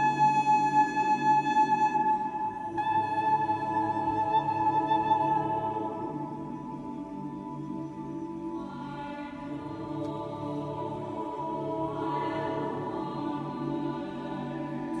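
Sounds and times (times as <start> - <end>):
mixed choir singing: 2.6 - 15.0.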